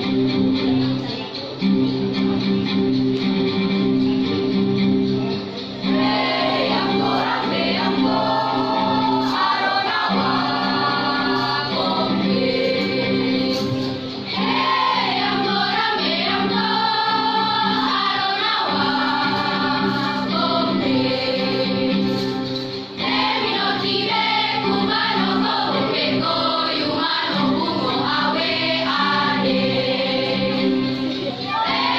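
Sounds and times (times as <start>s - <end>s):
sustained accompaniment: 1.9s - 31.9s
choir singing: 5.8s - 31.9s.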